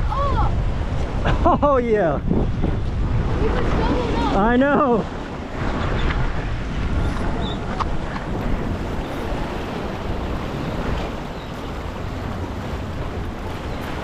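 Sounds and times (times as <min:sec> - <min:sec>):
waves splashing against rocks: 0:00.0 - 0:14.0
wind buffeting microphone: 0:00.0 - 0:14.0.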